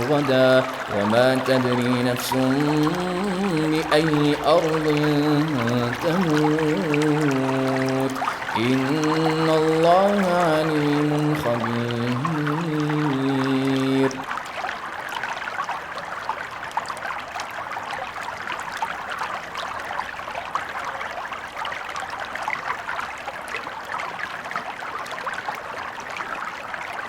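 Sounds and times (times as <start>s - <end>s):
stream babbling over stones: 0.0s - 27.0s.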